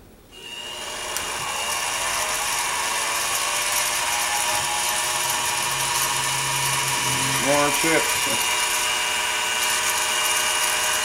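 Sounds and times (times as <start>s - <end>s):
drill bit cutting metal: 0.4s - 11.0s
milling machine spindle whine: 0.4s - 11.0s.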